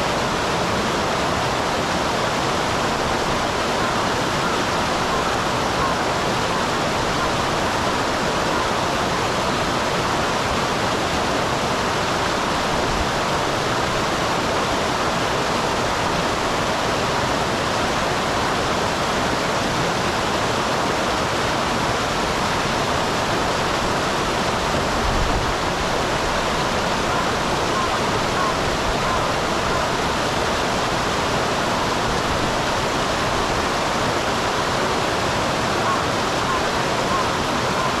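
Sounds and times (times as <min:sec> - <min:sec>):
waterfall pouring and splashing: 0:00.0 - 0:38.0.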